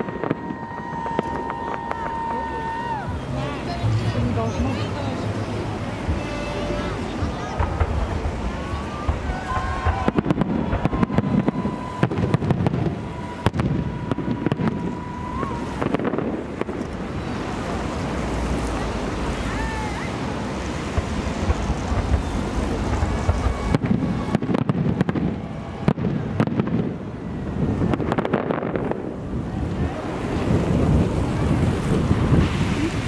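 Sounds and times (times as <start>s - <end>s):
fireworks bangs and crackles: 0.0s - 33.0s
wind rumble on microphone: 3.0s - 33.0s.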